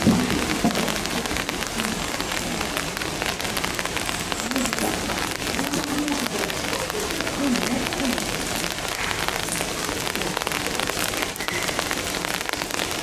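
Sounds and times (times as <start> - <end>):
rain on hard surfaces: 0.0 - 13.0.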